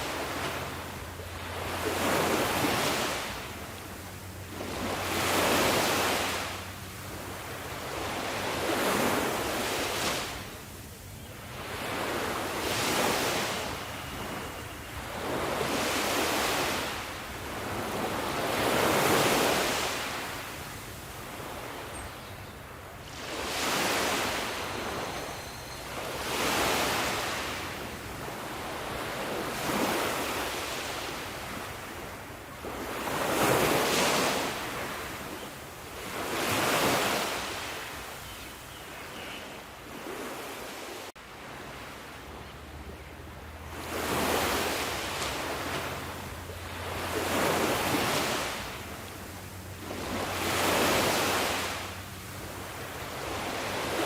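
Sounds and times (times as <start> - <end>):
sea waves surging: 0.0 - 21.9, 22.9 - 25.3, 25.9 - 35.2, 35.8 - 38.1, 39.9 - 54.0.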